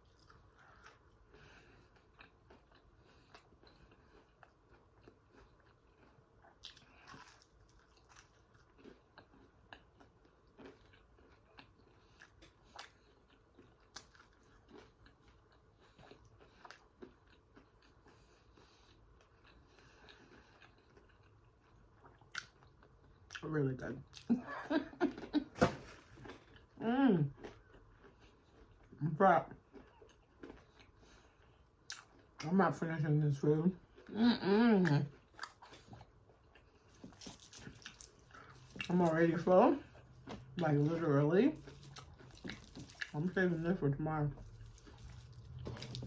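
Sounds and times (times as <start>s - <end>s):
soft food crunches: 0.0s - 23.5s, 29.6s - 32.5s, 34.8s - 43.6s, 44.3s - 46.0s
chewing and mouth smacking: 0.0s - 24.4s, 26.0s - 32.5s, 34.8s - 43.6s, 44.3s - 46.0s.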